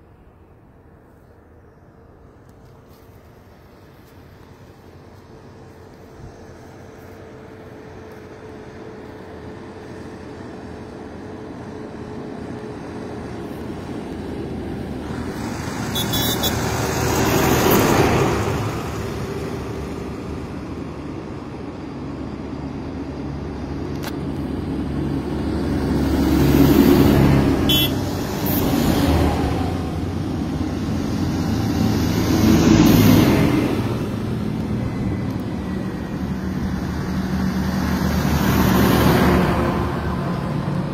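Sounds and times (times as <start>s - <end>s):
tractor diesel engines running: 0.0s - 40.9s
vehicle passing close: 4.9s - 40.9s.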